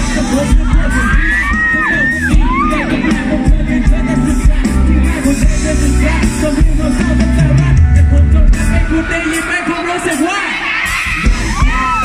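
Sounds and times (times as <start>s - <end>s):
live band playing: 0.0s - 12.0s
man singing into microphone: 0.0s - 12.0s.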